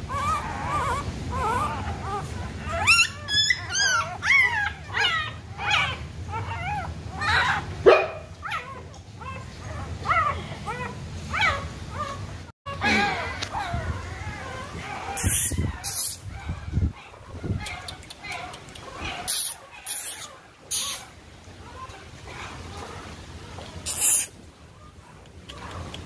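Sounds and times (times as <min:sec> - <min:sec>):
puppies whimpering and yelping: 0:00.0 - 0:26.0.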